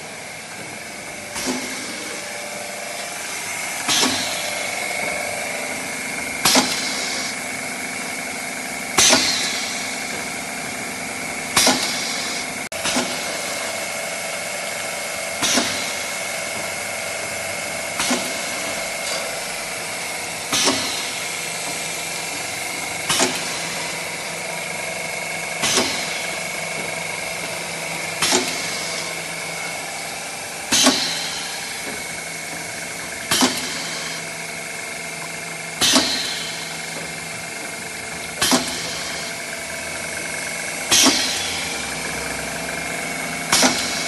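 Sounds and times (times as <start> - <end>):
packaging machine humming: 0.0 - 44.0
machine clacking: 0.1 - 44.0.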